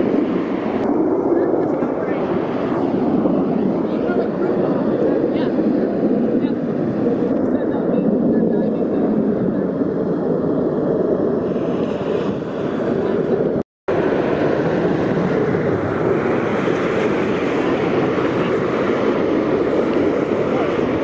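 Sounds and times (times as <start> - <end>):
jet noise: 0.0 - 21.0.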